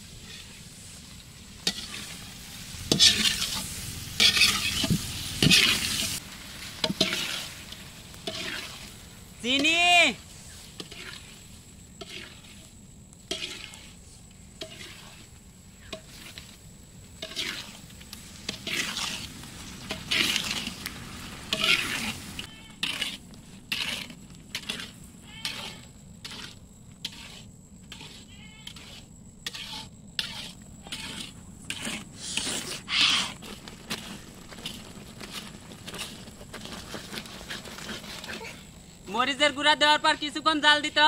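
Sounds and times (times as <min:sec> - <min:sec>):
metal ladle scraping a wok: 0:00.0 - 0:38.8
pickle mixture sizzling: 0:00.0 - 0:39.1.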